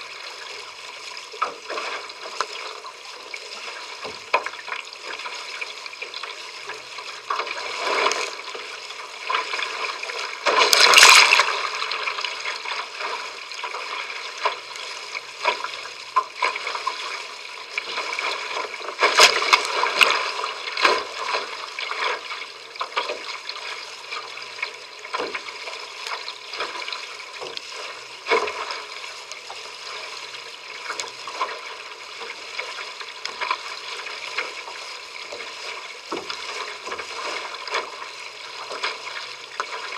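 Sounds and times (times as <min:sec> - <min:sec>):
water rushing along hull: 0:00.0 - 0:39.9
water slapping hull: 0:00.0 - 0:39.9.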